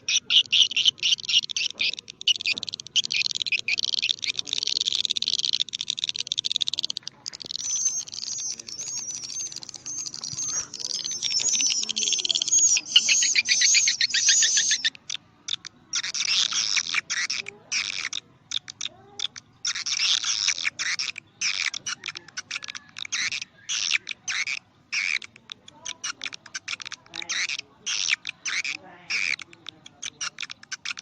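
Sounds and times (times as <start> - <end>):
rapid high bird twittering: 0.0 - 31.0.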